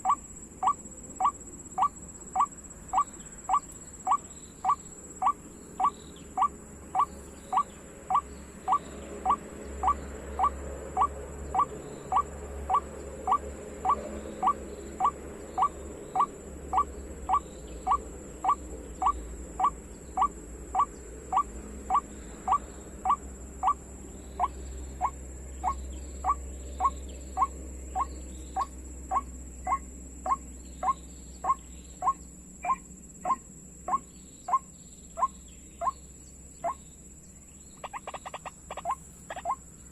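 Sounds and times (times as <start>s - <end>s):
bird call through a speaker: 0.0s - 23.8s, 24.4s - 36.0s.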